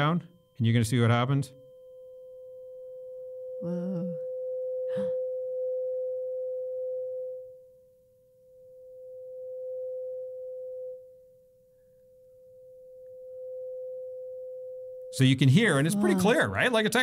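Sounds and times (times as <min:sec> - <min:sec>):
tuning fork ringing: 0:00.0 - 0:15.2.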